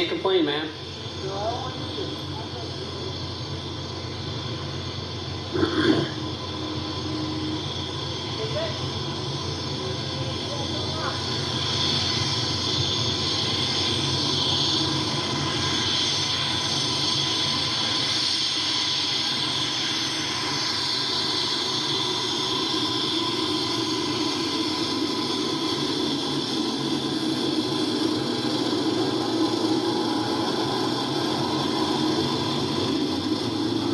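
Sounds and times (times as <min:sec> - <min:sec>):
turboprop engines whining: 0:00.0 - 0:33.9.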